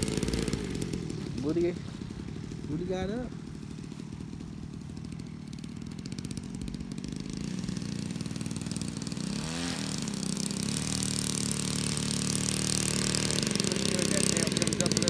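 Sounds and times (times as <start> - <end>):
model plane engine running: 0.0 - 15.0.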